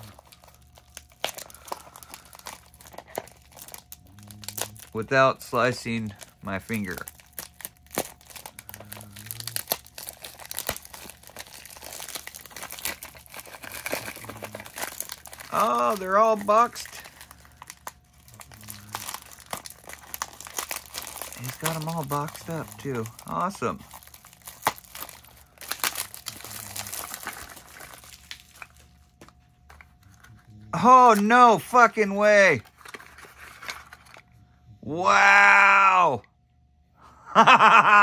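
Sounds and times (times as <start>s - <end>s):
packaging crinkling and tearing: 0.0s - 34.3s.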